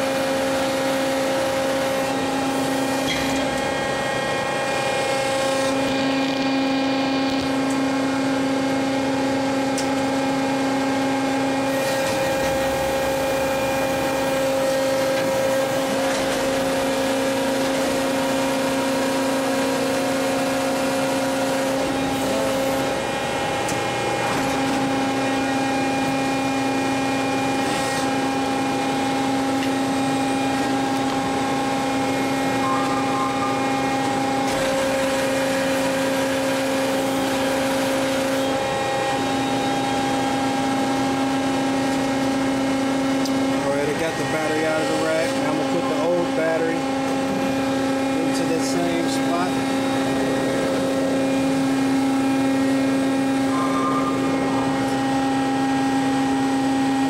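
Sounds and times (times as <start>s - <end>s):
electric motors whining and humming: 0.0s - 57.0s.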